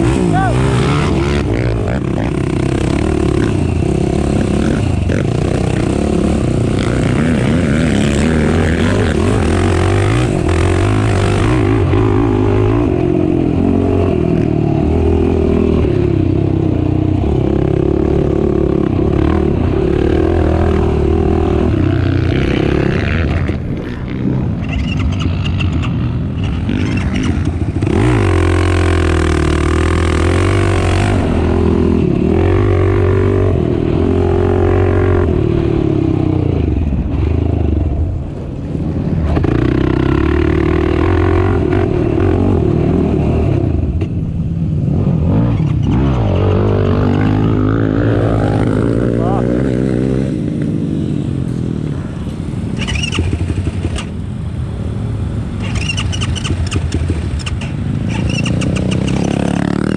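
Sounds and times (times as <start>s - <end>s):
atv engine running hard: 0.0s - 59.9s.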